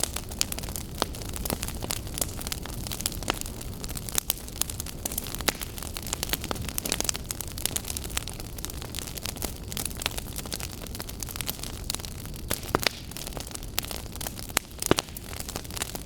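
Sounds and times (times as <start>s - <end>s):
fire flames rumbling: 0.0s - 16.0s
firewood crackling and popping: 0.0s - 16.0s.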